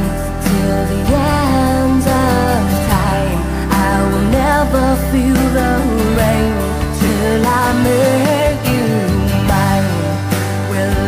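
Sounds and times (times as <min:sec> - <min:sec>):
live pop-rock band playing: 0:00.0 - 0:11.0.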